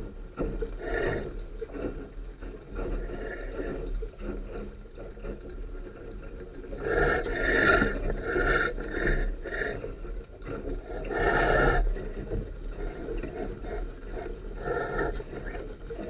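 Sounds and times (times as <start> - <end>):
water washing along hull: 0.0 - 16.0.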